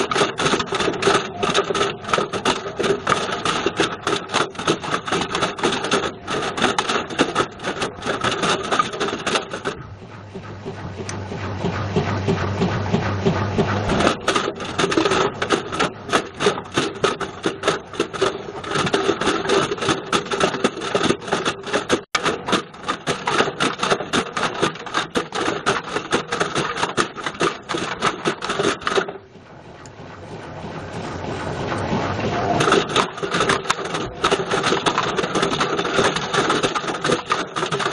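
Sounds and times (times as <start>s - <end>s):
object clattering in washing machine drum: 0.0s - 29.2s, 30.7s - 37.9s.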